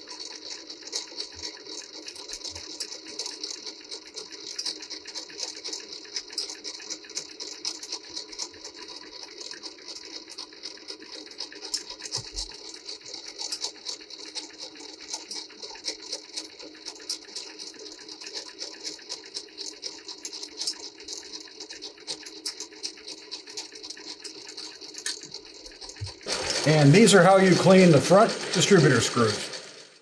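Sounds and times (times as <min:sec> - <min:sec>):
typesetting machine clatter: 0:00.0 - 0:30.0.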